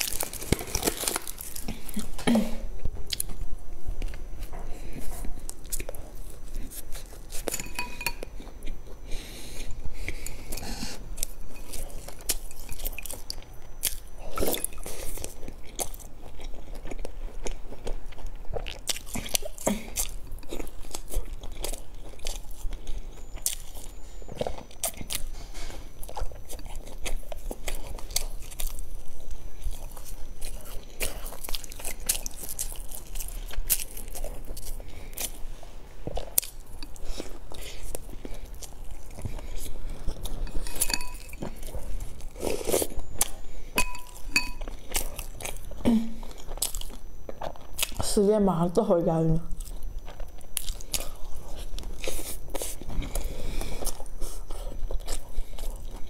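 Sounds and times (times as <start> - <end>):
chewing crunchy bread: 0.0 - 56.0.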